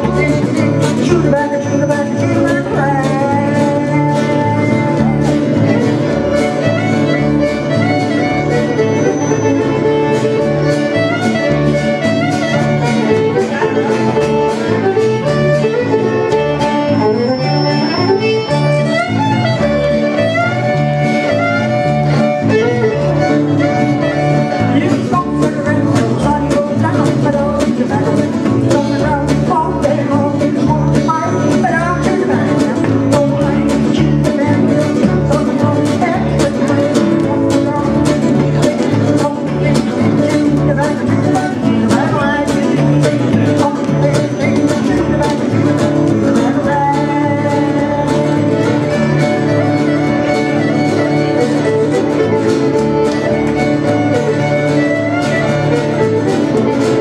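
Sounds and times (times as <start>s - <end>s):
country band playing: 0.0s - 57.0s
fiddle playing lead: 0.0s - 57.0s.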